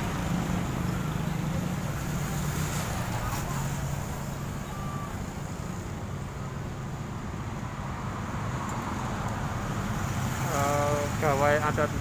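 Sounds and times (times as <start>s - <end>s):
motorcycles and cars passing: 0.0s - 12.0s.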